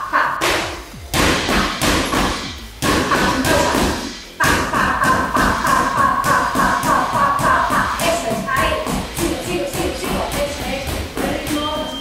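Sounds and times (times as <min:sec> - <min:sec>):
boxing gloves punching heavy bag: 0:00.4 - 0:12.0.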